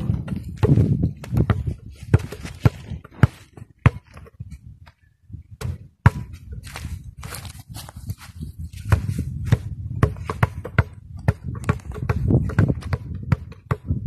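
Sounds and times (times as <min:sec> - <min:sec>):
basketball bouncing on dirt: 0:00.0 - 0:14.0.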